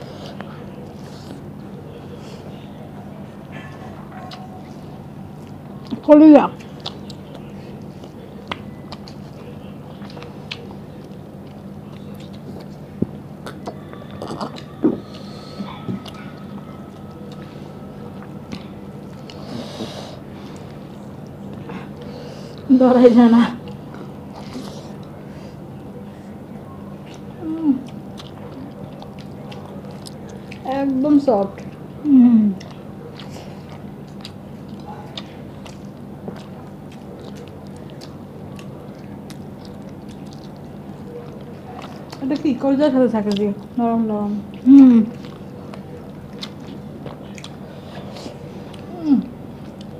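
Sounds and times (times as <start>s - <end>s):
chewing: 0.0s - 23.0s, 23.6s - 49.9s
faint hum: 0.0s - 49.9s.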